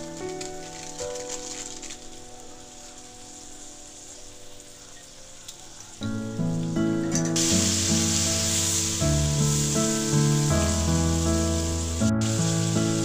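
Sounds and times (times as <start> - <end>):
background music: 0.0 - 13.0
beans sizzling in a wok: 0.0 - 13.0.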